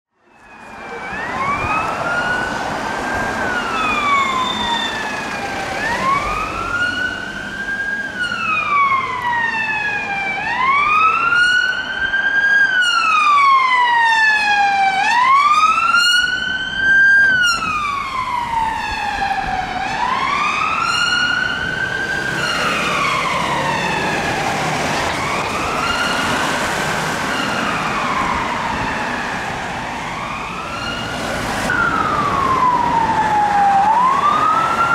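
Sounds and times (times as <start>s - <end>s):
police siren wailing: 0.2s - 34.9s.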